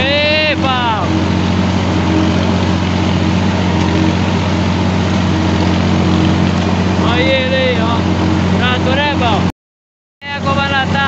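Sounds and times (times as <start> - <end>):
tractor diesel engine running: 0.0 - 9.5, 10.2 - 11.0.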